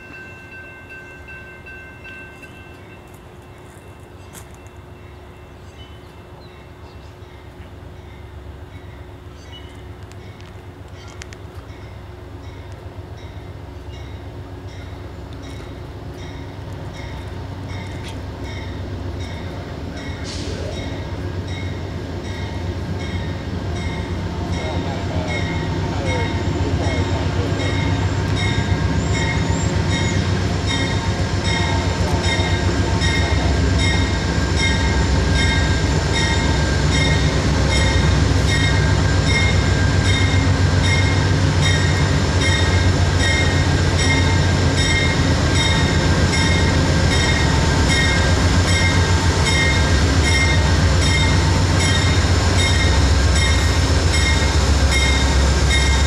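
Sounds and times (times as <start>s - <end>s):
locomotive bell ringing: 0.0s - 7.4s, 11.7s - 56.0s.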